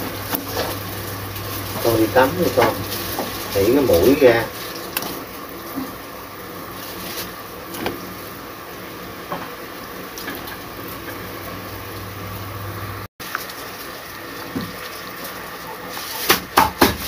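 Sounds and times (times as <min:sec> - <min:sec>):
pot of water hissing: 0:00.0 - 0:17.0.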